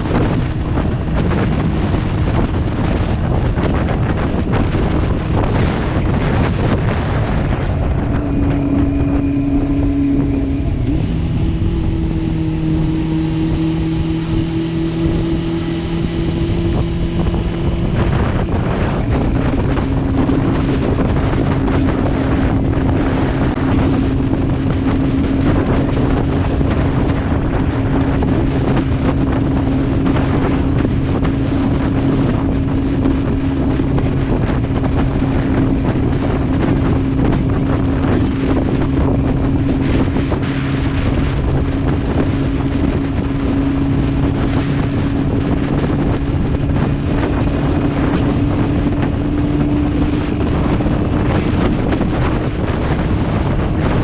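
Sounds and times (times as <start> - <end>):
motorcycle engine running: 0.0 - 54.0
wind buffeting on microphone: 0.0 - 54.0.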